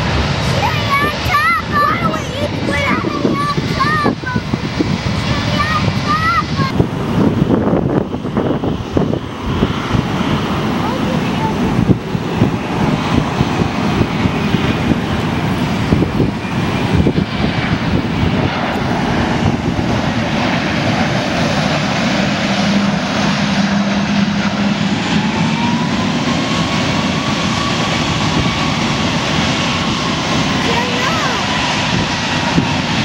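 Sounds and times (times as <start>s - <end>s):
jet engines roaring: 0.0s - 33.0s
rising engine whine: 0.0s - 33.0s.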